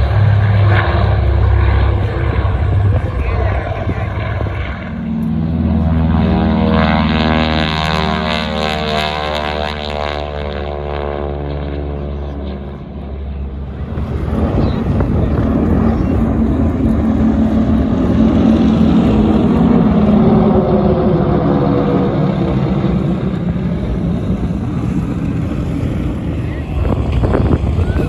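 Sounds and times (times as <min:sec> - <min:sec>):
formation of planes flying over: 0:00.0 - 0:28.0
propeller plane climbing away: 0:00.0 - 0:28.0.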